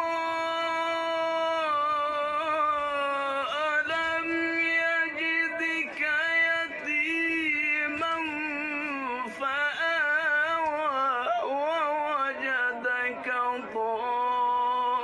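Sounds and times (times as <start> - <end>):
person chanting quran recitation: 0.0 - 15.0.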